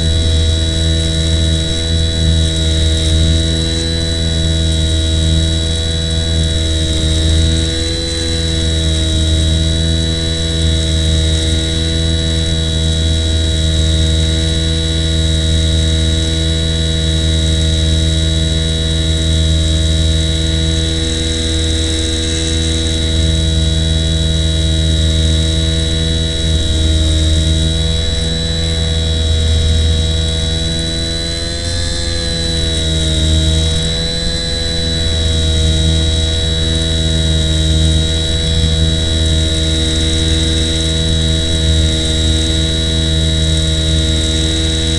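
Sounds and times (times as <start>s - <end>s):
small electric motor buzzing: 0.0s - 44.9s.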